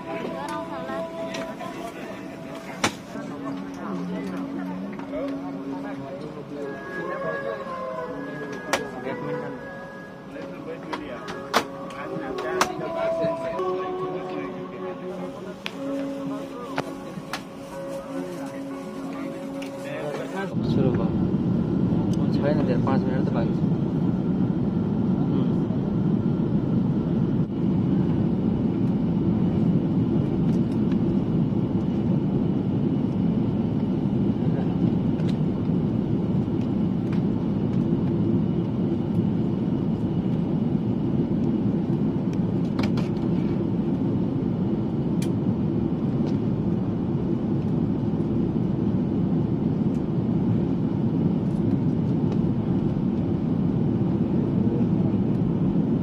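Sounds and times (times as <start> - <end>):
airliner cabin roar: 0.0 - 56.0.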